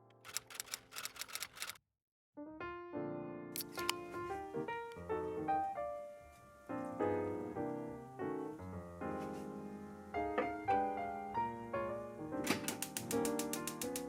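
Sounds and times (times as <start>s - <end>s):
gentle piano music: 2.4s - 14.0s.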